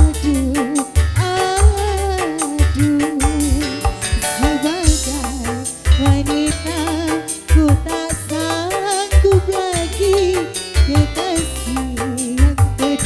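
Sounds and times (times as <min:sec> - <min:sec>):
live keyboard band music: 0:00.0 - 0:13.0.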